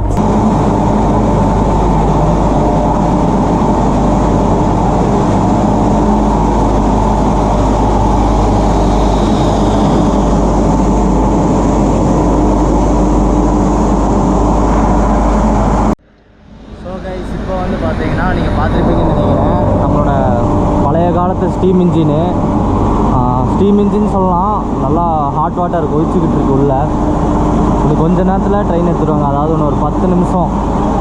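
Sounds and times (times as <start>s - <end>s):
locomotive mechanical hum: 0.0s - 31.0s.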